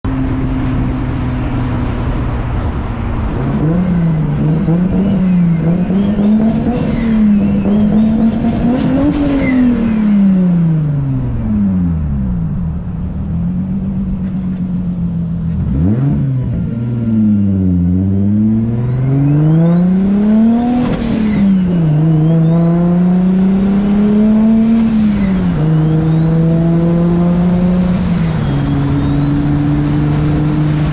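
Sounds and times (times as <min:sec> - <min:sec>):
car engine revving: 0:00.1 - 0:30.9.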